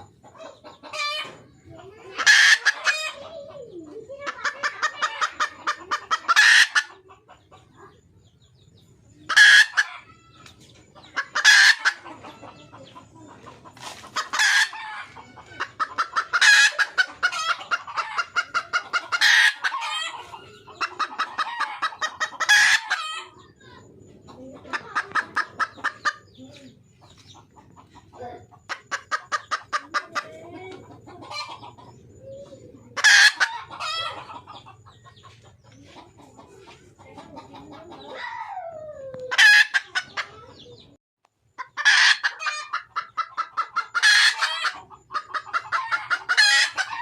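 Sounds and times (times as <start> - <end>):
hen clucking: 0.0 - 47.0.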